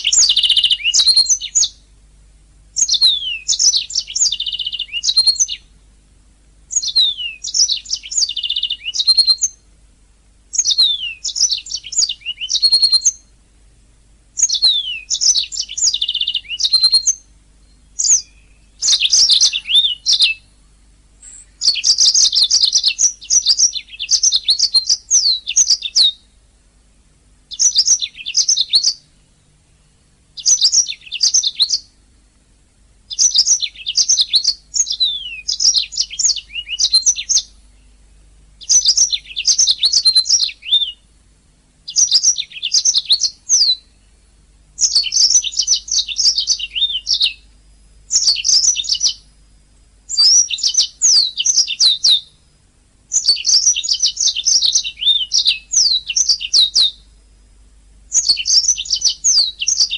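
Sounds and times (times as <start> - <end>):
canary singing: 0.0 - 1.9, 2.7 - 6.0, 6.7 - 9.7, 10.5 - 13.4, 14.4 - 26.4, 27.5 - 32.2, 33.1 - 41.2, 41.9 - 49.4, 50.1 - 52.5, 53.1 - 57.2, 58.1 - 59.9.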